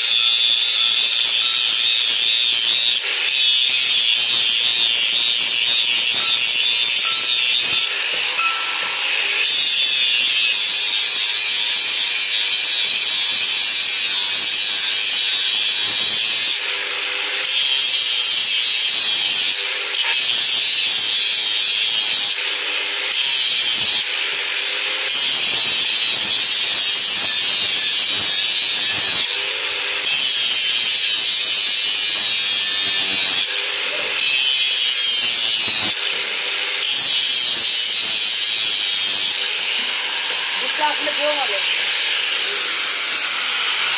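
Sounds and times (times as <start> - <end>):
angle grinder grinding steel: 0.0 - 43.9.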